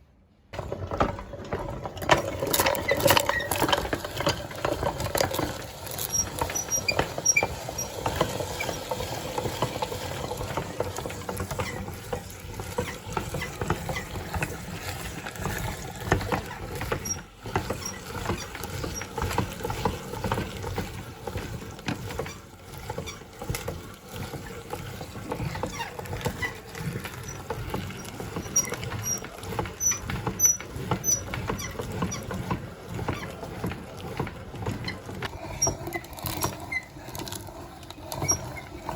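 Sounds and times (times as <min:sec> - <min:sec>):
meat grinder humming: 0:00.6 - 0:38.9.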